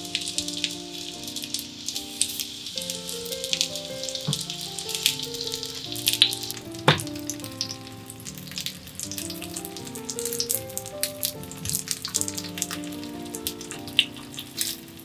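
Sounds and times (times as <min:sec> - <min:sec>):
fish sizzling in oil: 0:00.0 - 0:15.0
soft piano music: 0:00.0 - 0:15.0.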